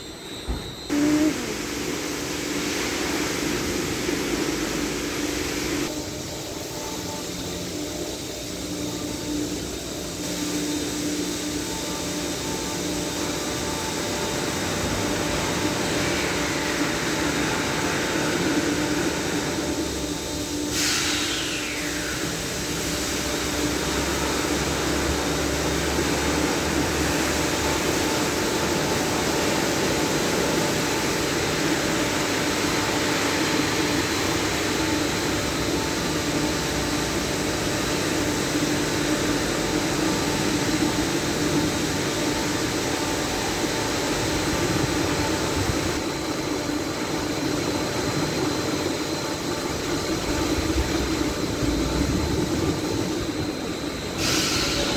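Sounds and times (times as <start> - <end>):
falling whine: 0.0 - 10.0, 11.6 - 54.9
blower dryer fans running: 0.0 - 54.9.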